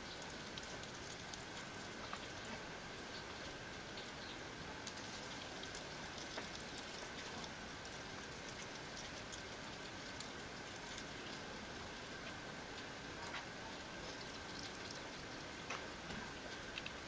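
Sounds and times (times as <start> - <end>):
small animals chewing food: 0.0 - 17.0
steady hiss: 0.0 - 17.0.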